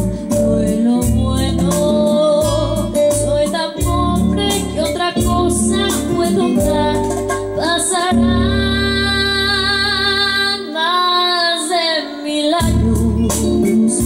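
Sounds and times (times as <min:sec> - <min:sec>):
instrumental backing music: 0:00.0 - 0:14.0
woman singing a bolero: 0:00.0 - 0:14.0.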